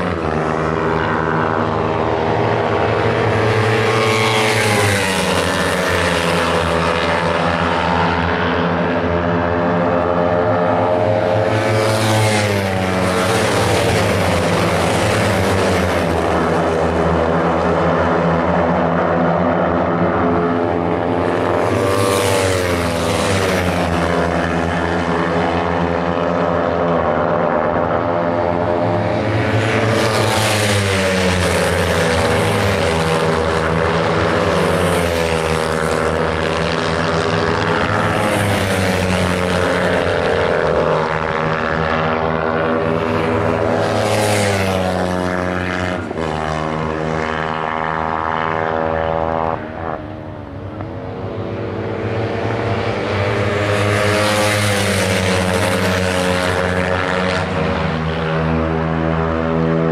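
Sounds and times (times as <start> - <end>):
motorcycles racing past: 0.0 - 59.9.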